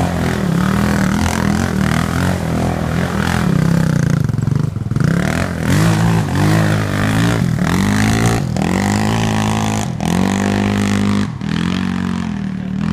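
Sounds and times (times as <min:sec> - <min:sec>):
quad engine revving: 0:00.0 - 0:12.9.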